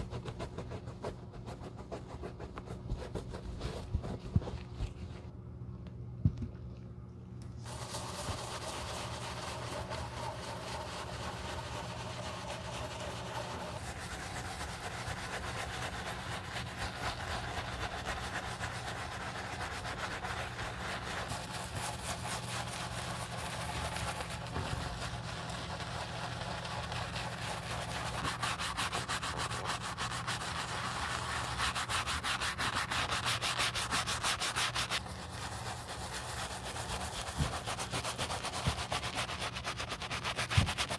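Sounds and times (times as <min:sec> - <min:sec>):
bristle brush scrubbing leather: 0:00.0 - 0:05.3, 0:07.6 - 0:40.9.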